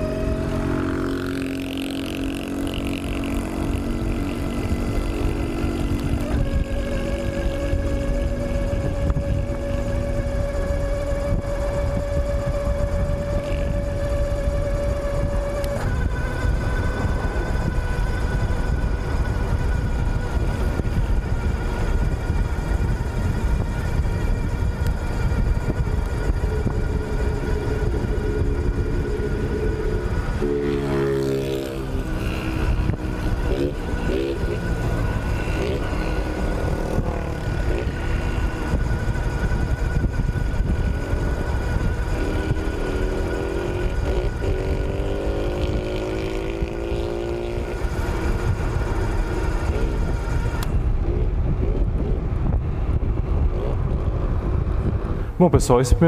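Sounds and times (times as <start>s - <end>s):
high electric motor whine: 0.0s - 56.0s
wind rushing over microphone: 0.0s - 56.0s.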